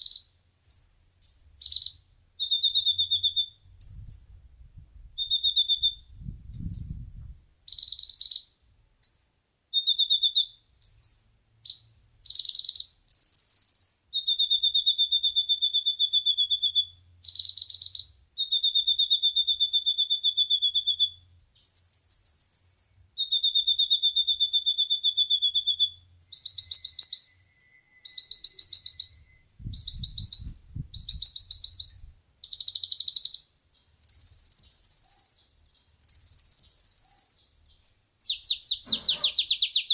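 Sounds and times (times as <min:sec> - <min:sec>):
bird whistles and buzzy trills: 0:01.6 - 0:04.4, 0:05.2 - 0:37.5, 0:38.2 - 0:39.9.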